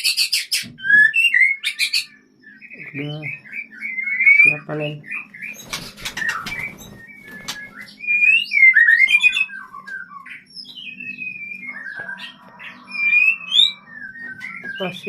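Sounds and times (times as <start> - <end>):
bird chirps and whistles: 0.0 - 15.0.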